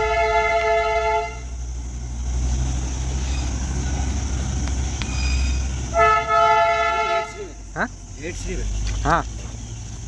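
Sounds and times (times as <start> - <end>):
motorcycle engine and road rumble: 0.0 - 10.0.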